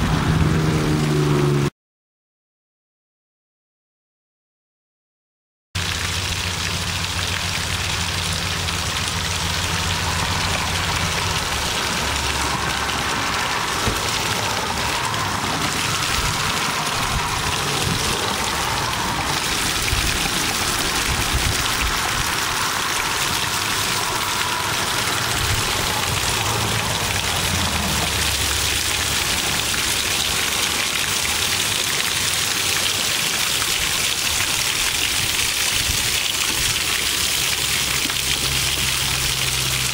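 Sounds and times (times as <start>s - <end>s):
water splashing onto rocks: 5.8s - 39.9s.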